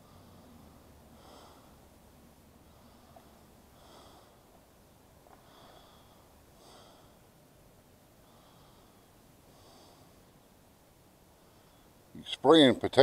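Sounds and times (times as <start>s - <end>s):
soft breathing close to microphone: 0.0s - 10.6s, 11.2s - 12.1s.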